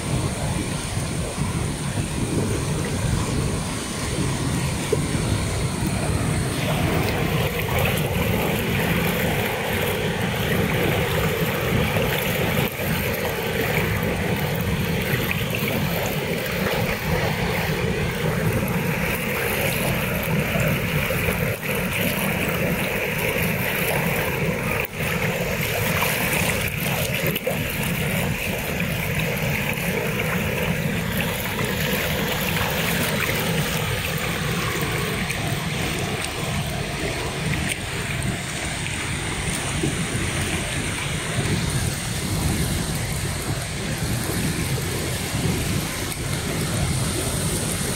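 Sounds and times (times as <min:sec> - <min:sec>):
waterfall roaring: 0:00.0 - 0:47.9.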